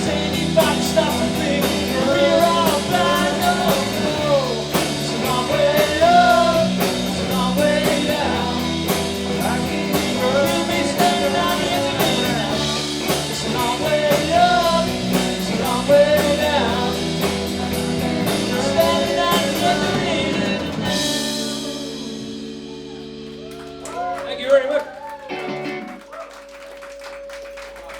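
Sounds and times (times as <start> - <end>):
person singing: 0.0 - 23.0
live rock band playing: 0.0 - 27.9.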